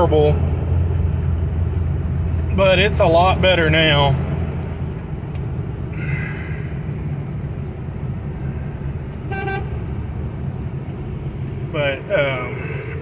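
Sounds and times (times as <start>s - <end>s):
diesel engine droning: 0.0s - 13.0s
road noise: 0.0s - 13.0s.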